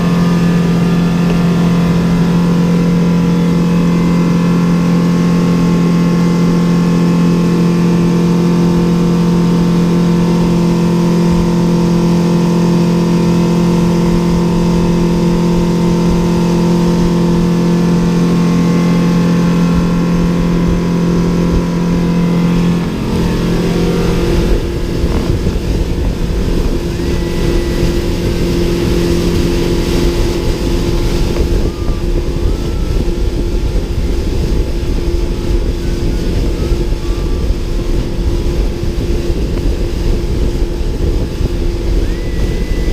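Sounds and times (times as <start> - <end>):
speedboat engine droning: 0.0 - 42.9.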